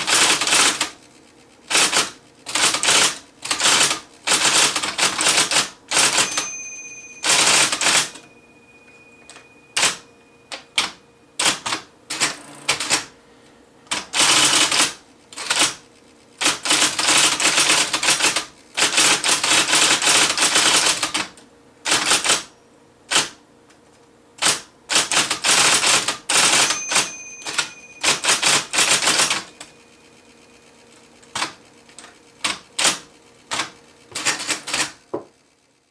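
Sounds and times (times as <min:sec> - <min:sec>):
typewriter motor hum: 0:00.0 - 0:06.4, 0:09.3 - 0:13.2, 0:13.9 - 0:22.5, 0:24.4 - 0:35.9
electric typewriter keystrokes: 0:00.0 - 0:08.3, 0:09.2 - 0:13.2, 0:13.9 - 0:15.8, 0:16.4 - 0:22.5, 0:23.1 - 0:23.4, 0:24.4 - 0:29.8, 0:30.7 - 0:35.4.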